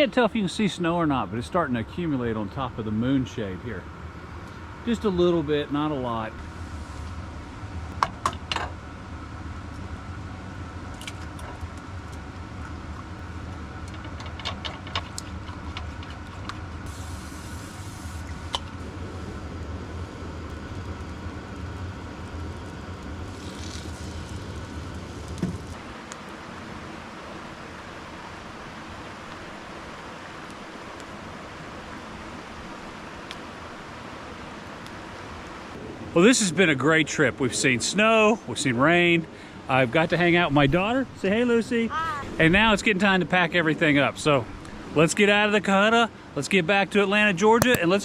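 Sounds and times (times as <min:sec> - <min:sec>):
steady hiss: 0:00.0 - 0:08.1, 0:16.8 - 0:48.0.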